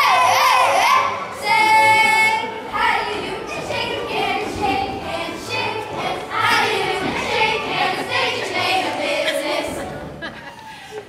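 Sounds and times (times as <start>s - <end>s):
children singing: 0.0s - 10.0s.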